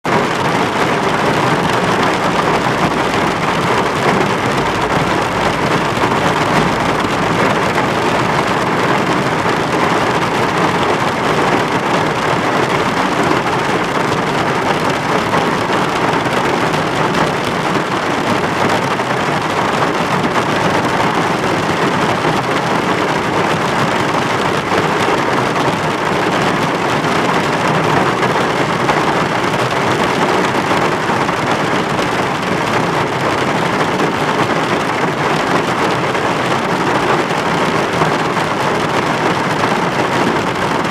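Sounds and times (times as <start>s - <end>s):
heavy rain pelting down: 0.0s - 40.9s.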